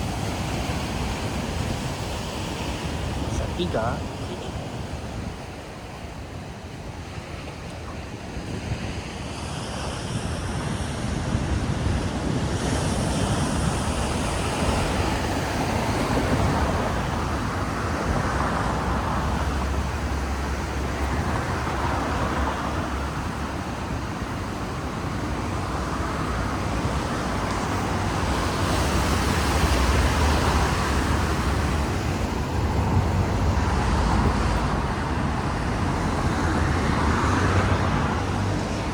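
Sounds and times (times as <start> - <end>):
road traffic passing: 0.0 - 38.9
waves: 0.0 - 38.9.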